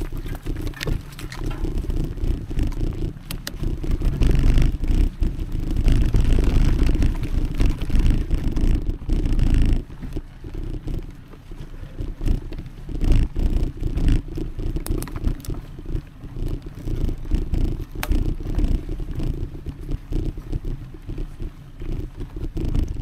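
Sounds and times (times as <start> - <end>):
bike tyre and frame noise: 0.0 - 23.0.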